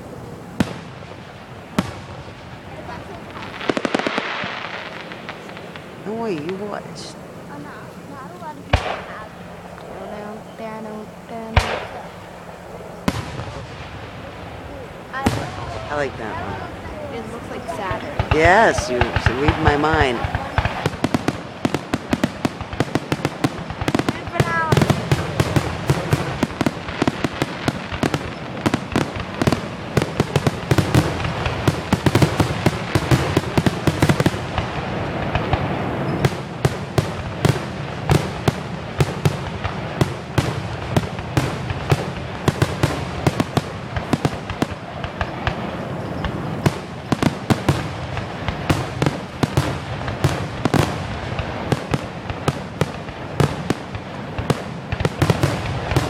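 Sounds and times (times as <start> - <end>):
fireworks cracks and booms: 0.0 - 56.0
steady rumble: 0.0 - 56.0.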